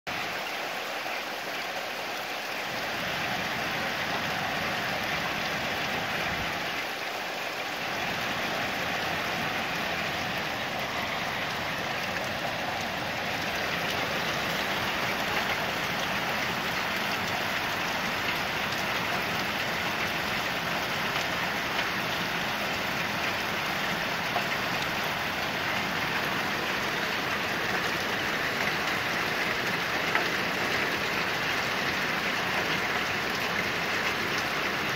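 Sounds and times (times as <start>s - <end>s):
individual raindrops: 0.1s - 34.9s
steady rain: 0.1s - 34.9s.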